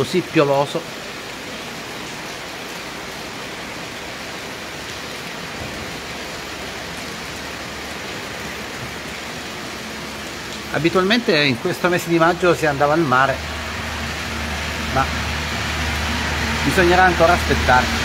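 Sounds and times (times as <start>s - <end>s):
rain on stone street: 0.0s - 18.0s.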